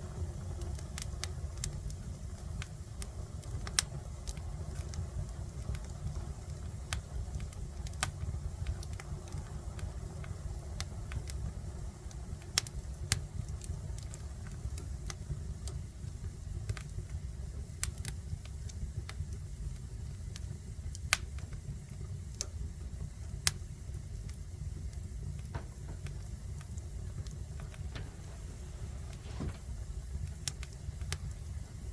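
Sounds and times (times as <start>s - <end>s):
fire low rumble: 0.0s - 31.9s
wood fire crackling and popping: 0.0s - 31.9s.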